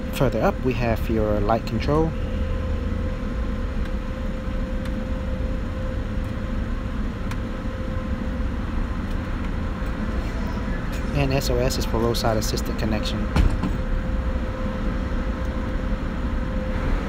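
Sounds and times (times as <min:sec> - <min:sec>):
car engine idling hum: 0:00.0 - 0:17.0
faint steady whine: 0:00.0 - 0:17.0.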